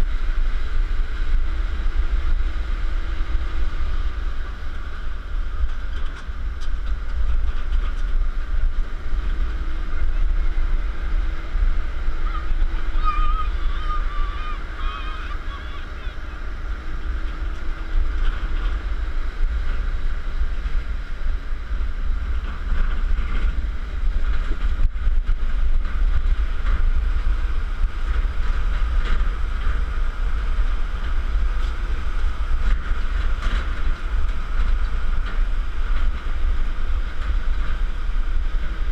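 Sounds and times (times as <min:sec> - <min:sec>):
vehicle road noise on gravel: 0:00.0 - 0:38.9
wind buffeting microphone: 0:00.0 - 0:38.9.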